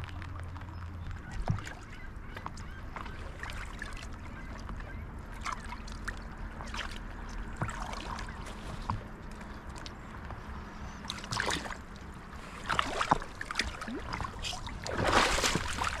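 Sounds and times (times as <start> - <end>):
paddle splashing water: 0.0 - 16.0
water wash: 0.0 - 16.0.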